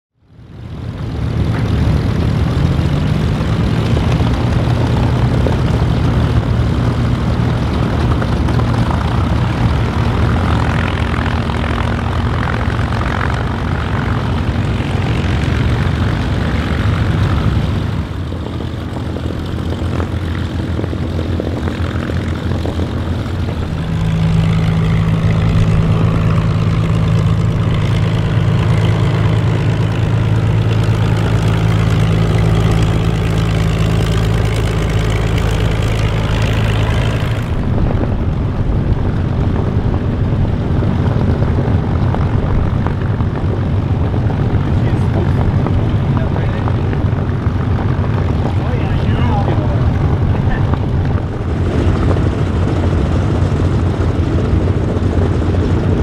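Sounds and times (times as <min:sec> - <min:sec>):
propeller engines droning: 0:00.2 - 0:56.0.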